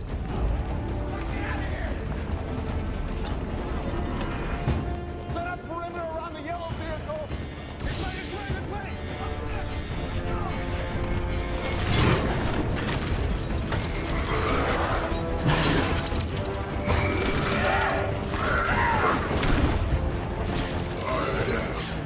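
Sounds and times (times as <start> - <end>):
dramatic orchestral music: 0.0 - 22.0.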